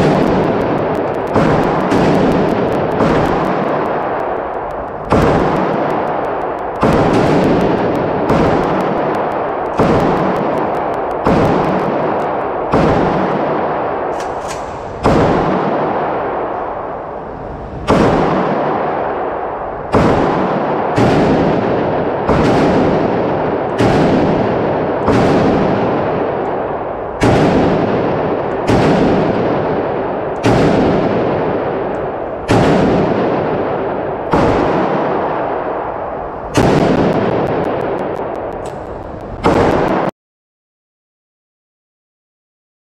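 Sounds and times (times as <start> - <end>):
rifle firing single shots: 0.0 - 16.8, 17.9 - 40.0.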